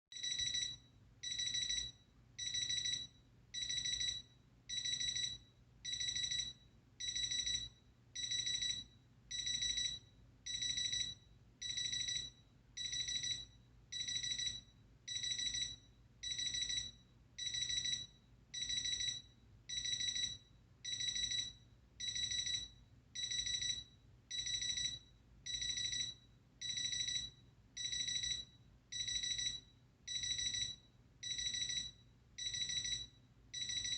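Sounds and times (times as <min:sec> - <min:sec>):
alarm clock beeping: 0:00.1 - 0:33.9.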